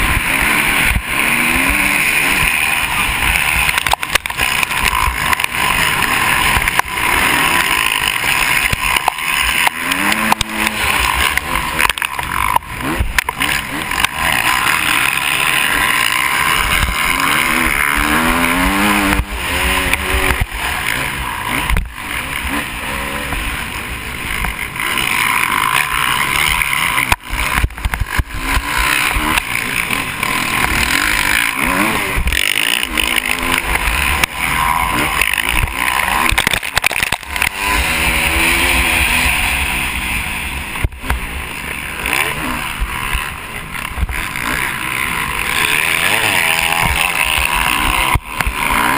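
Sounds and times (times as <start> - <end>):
motocross engine revving: 0.0 - 48.9.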